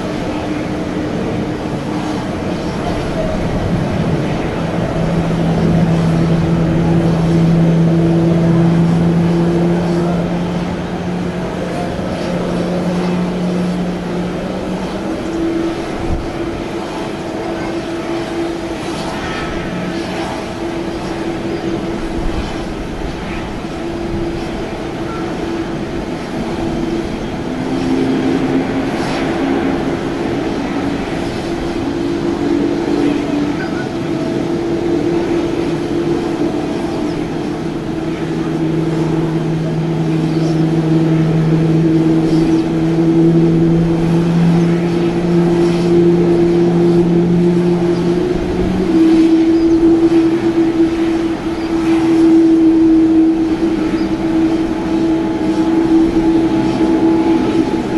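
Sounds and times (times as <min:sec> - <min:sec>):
jet airliner mechanical drone: 0:00.0 - 0:57.9.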